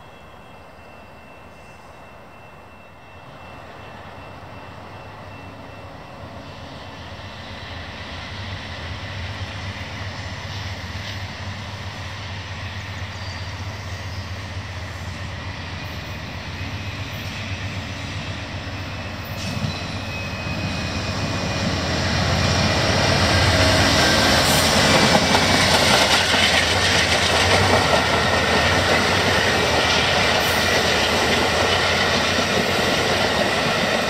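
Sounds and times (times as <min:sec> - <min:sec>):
diesel locomotive engines droning: 0:00.0 - 0:34.0.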